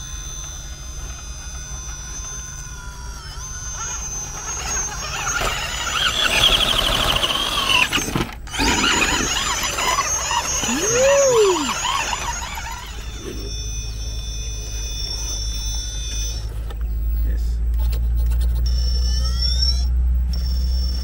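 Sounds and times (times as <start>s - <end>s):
electric motor and gears whining: 0.0s - 21.0s.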